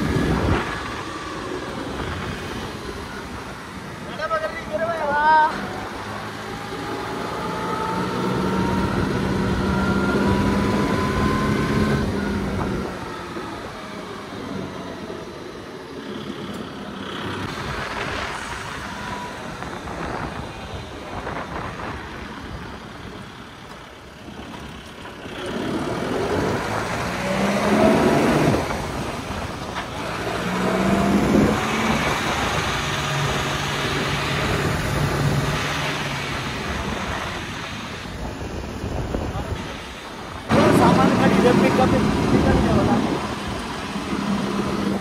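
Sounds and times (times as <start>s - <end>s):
road noise: 0.0s - 45.0s
vehicle engine: 0.0s - 45.0s.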